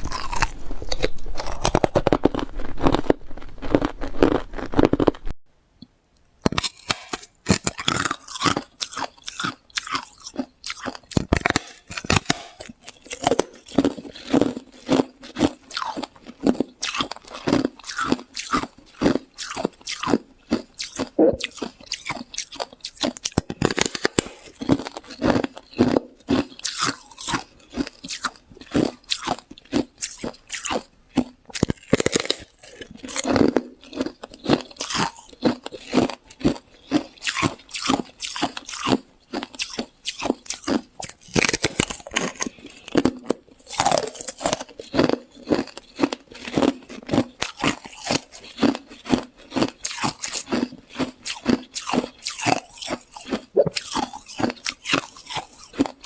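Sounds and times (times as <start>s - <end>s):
crunching ice being chewed: 0.0s - 5.4s, 6.4s - 56.0s.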